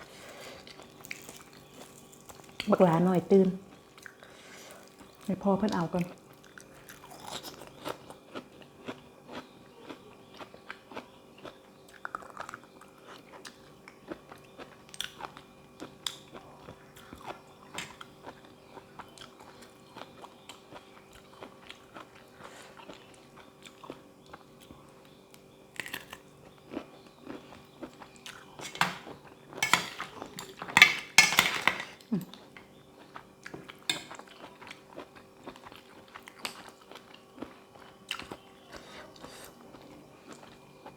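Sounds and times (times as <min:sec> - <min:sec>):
chewing and crunching: 0:00.0 - 0:31.2, 0:31.9 - 0:40.9
faint steady hum: 0:00.0 - 0:40.9.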